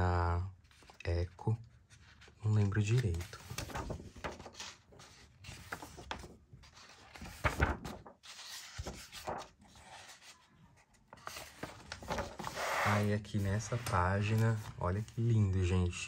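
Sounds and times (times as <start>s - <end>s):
paper pages rustling: 1.7s - 16.0s.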